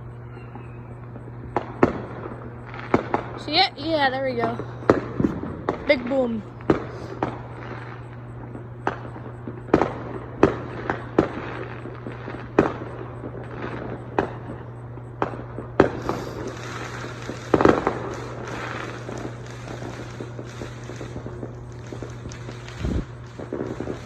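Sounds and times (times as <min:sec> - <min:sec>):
fireworks booming: 0:00.0 - 0:24.0.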